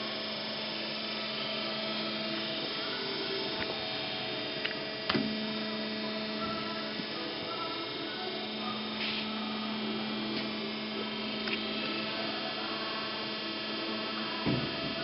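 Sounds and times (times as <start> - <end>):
bandsaw electric hum: 0.0 - 15.0.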